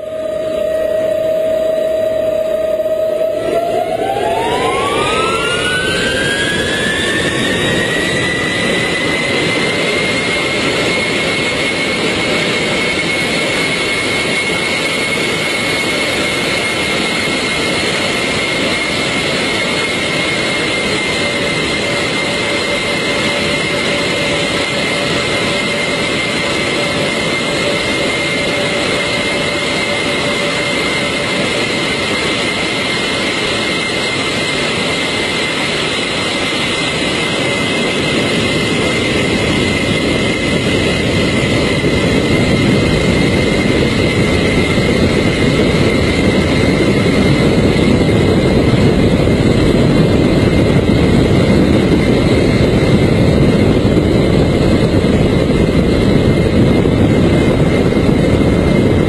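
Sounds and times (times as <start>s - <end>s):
jet engines spooling up: 0.0s - 59.0s.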